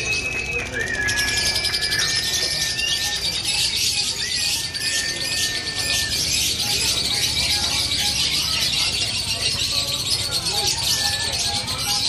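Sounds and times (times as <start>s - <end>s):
lovebirds trilling: 0.0s - 12.0s.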